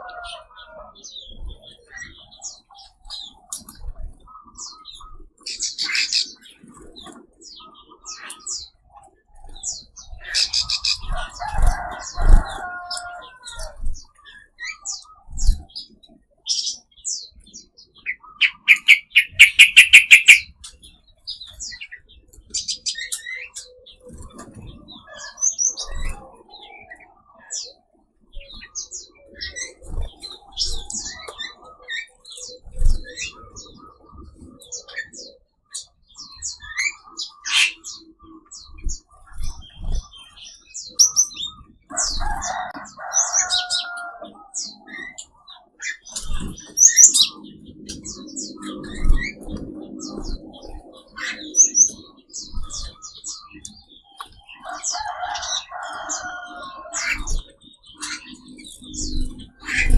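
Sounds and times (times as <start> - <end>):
cage birds chirping and whistling: 0.0 - 59.9.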